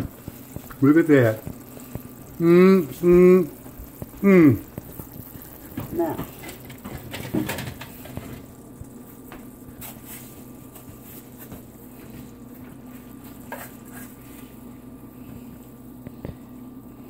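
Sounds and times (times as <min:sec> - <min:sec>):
meat simmering in a skillet: 0:00.0 - 0:17.0
steady low hum: 0:00.0 - 0:17.0.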